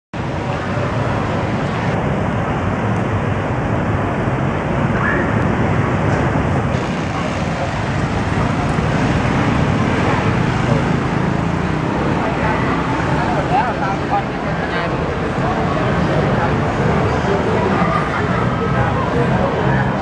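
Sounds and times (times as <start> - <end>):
people's voices: 0.2 - 3.4, 4.1 - 20.0
passing motorbikes and cars: 0.2 - 20.0.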